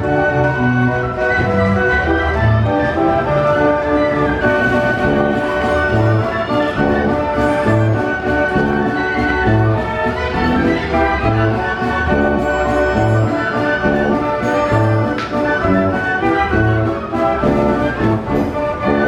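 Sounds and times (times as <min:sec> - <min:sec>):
carousel band organ playing: 0:00.0 - 0:19.0.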